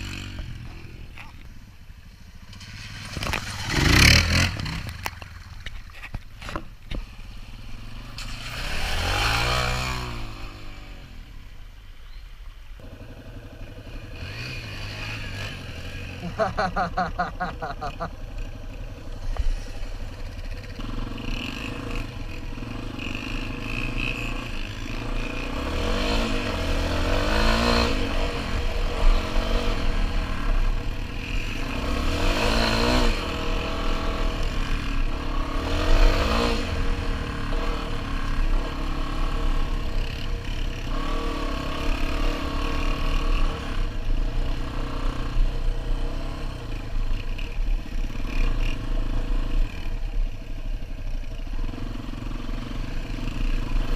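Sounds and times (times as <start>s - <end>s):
motorcycle engine accelerating: 0.0s - 5.8s, 7.0s - 11.5s, 12.8s - 53.9s.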